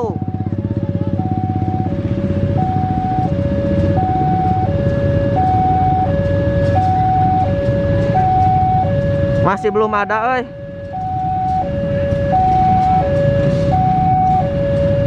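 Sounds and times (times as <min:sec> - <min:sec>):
diesel locomotive idling rumble: 0:00.0 - 0:15.0
level-crossing alarm two tones: 0:00.0 - 0:15.0.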